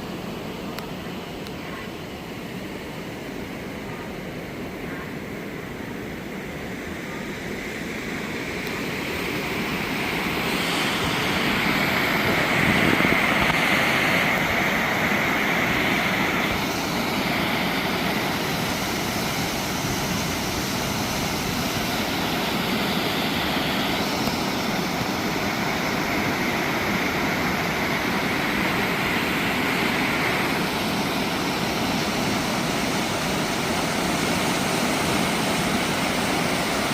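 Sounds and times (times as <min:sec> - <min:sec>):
mountain stream rushing: 0:00.0 - 0:36.9.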